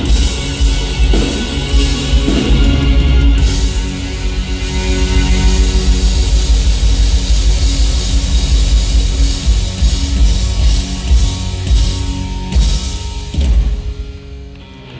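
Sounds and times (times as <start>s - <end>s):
drum kit: 0.0s - 14.5s
bass guitar: 0.0s - 14.9s
electric guitar: 0.0s - 14.9s.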